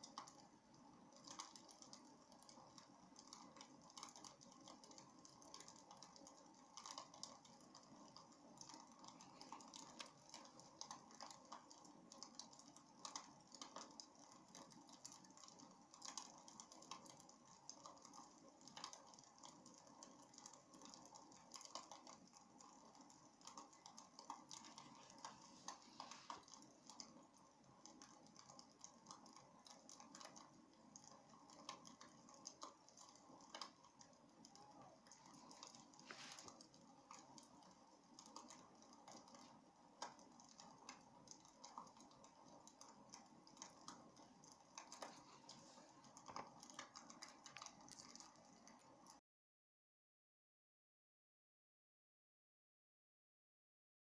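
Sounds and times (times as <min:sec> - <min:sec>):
wood fire crackling: 0:00.0 - 0:49.2.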